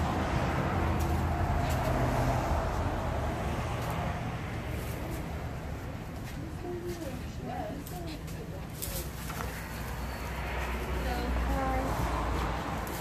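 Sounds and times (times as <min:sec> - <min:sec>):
highway traffic rushing: 0:00.0 - 0:13.0.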